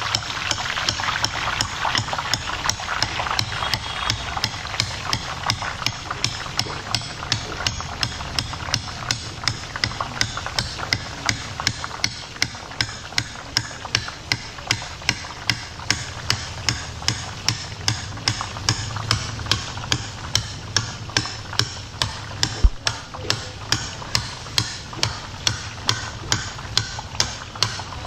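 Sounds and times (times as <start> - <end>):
batter sizzling in hot oil: 0.0 - 28.0.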